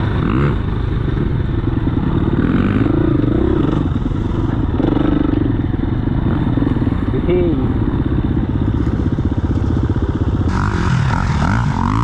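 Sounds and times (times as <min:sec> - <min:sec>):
dirt bike engine revving: 0:00.0 - 0:05.6, 0:06.2 - 0:12.0.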